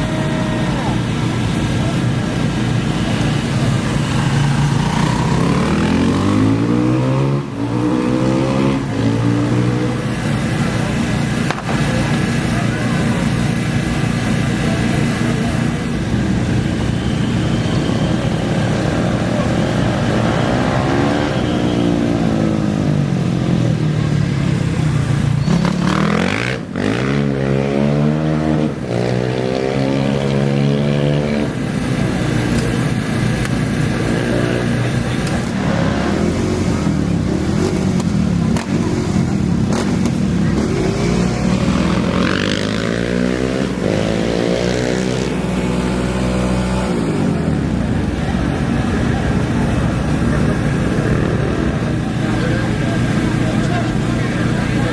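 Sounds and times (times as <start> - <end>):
race engines revving: 0.0 - 54.9.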